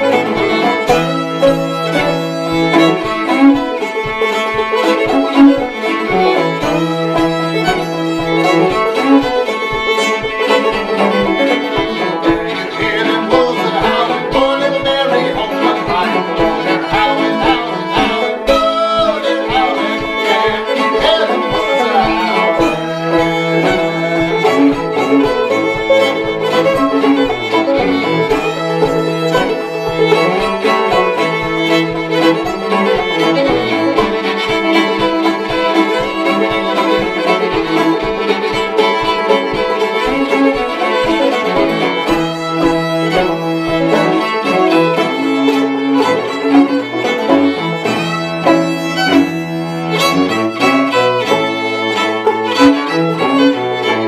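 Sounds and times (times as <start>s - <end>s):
banjo: 0.0s - 54.0s
bowed cello: 0.0s - 54.0s
fiddle melody: 0.0s - 54.0s.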